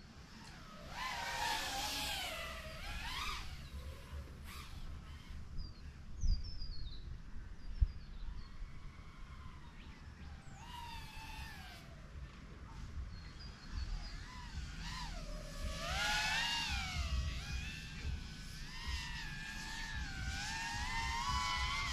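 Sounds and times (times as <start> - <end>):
drone motors whining: 0.0 - 21.9
low wind rumble: 0.0 - 21.9
small birds chirping: 0.1 - 21.9.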